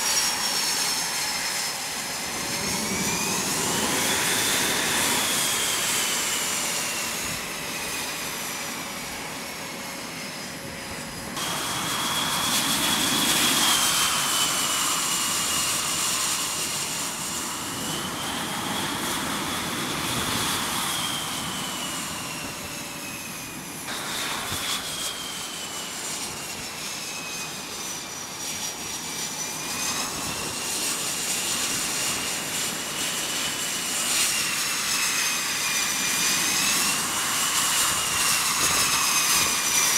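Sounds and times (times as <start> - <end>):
jet engines whining at low power: 0.0 - 39.9.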